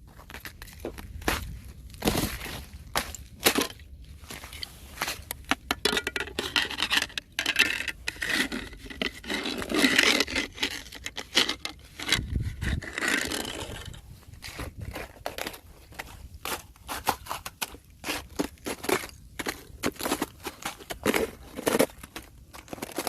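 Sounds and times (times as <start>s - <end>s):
thin ice cracking and crunching: 0.2s - 23.0s.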